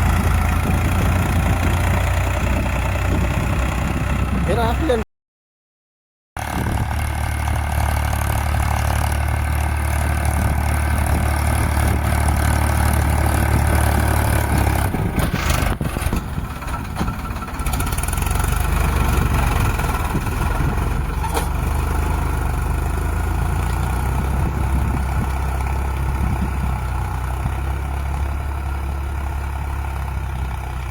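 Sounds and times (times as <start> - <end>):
tractor diesel engine running: 0.0 - 5.0, 6.4 - 30.9.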